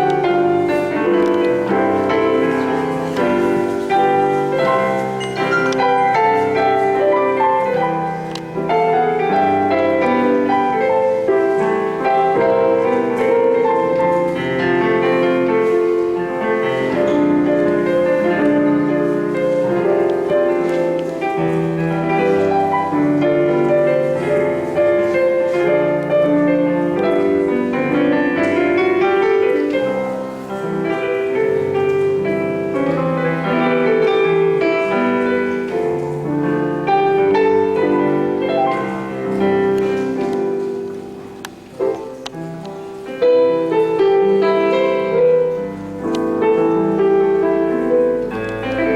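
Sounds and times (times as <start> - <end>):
keyboard instruments playing: 0.0 - 48.9.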